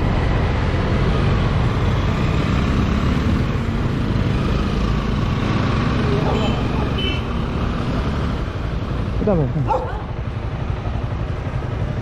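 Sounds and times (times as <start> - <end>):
wind and road rush: 0.0 - 12.0
motorcycle engine running: 1.6 - 12.0.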